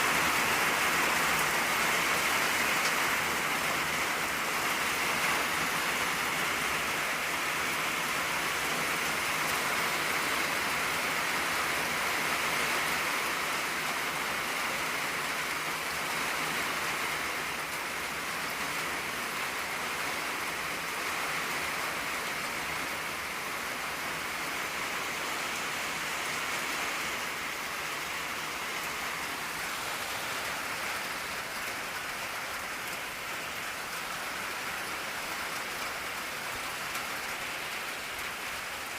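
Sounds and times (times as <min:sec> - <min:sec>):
rain on a tin roof: 0:00.0 - 0:38.9.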